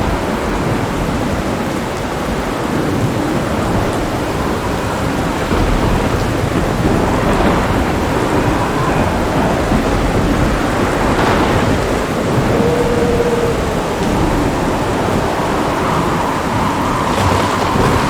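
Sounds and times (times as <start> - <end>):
heavy rain: 0.0 - 18.0
rolling thunder: 0.0 - 18.0.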